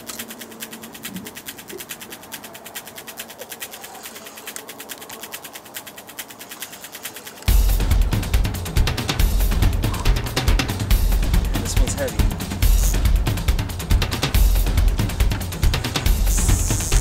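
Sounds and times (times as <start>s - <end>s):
fishing reel ticking: 0.0s - 17.0s.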